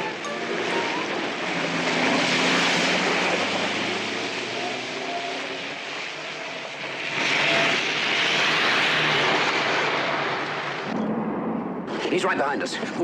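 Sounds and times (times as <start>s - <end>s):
car engine revving hard: 0.8s - 12.0s.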